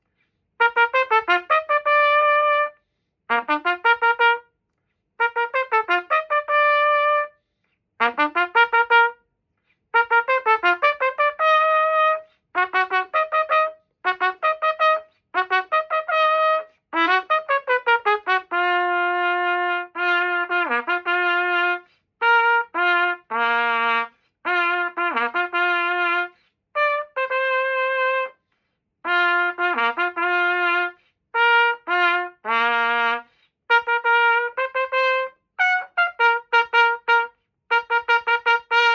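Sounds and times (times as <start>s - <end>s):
solo trumpet playing: 0.0s - 38.9s.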